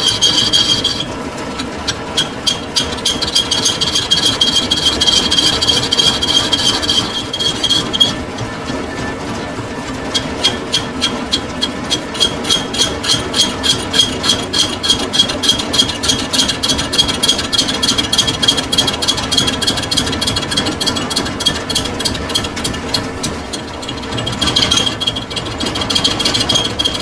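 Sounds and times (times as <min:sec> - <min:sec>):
lathe humming: 0:00.0 - 0:27.0.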